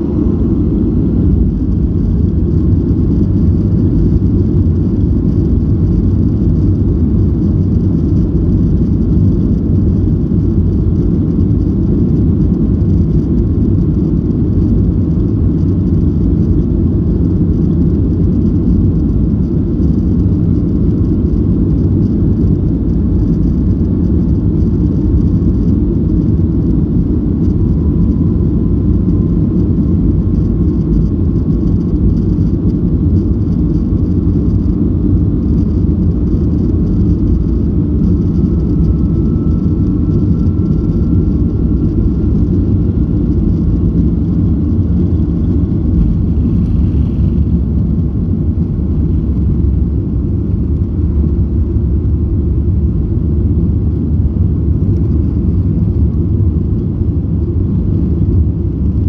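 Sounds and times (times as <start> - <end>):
aircraft wheels rolling: 0.0 - 59.0
jet engines rumbling at low power: 0.0 - 59.0.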